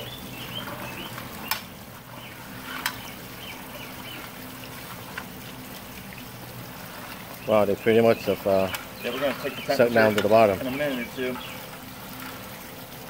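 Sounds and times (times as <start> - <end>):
paddle stirring sloshing water: 0.0 - 13.0.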